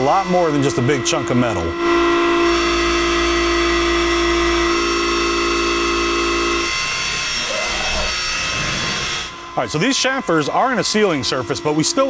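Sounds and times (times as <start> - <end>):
milling cutter whine: 0.0 - 12.0.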